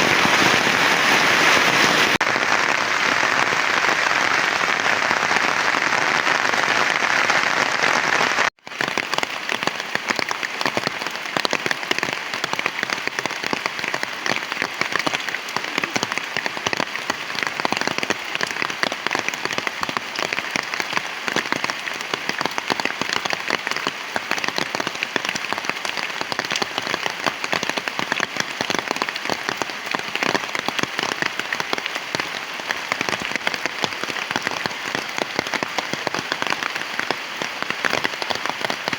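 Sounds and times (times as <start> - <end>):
heavy rain falling: 0.0 - 38.9
raindrops pattering on surfaces: 0.0 - 38.9.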